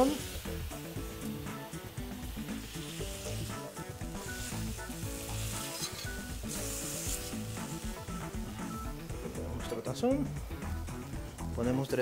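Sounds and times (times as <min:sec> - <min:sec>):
beef sizzling in pan: 0:00.0 - 0:11.6
background music: 0:00.0 - 0:12.0.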